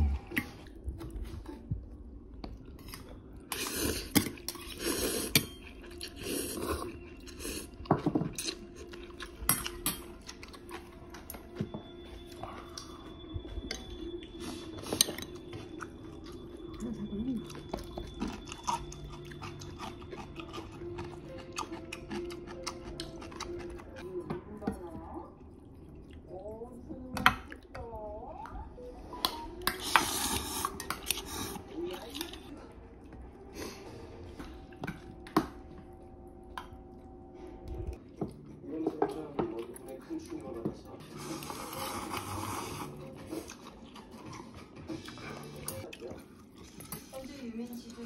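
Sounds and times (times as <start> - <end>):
chewing and eating noises: 0.0 - 48.0.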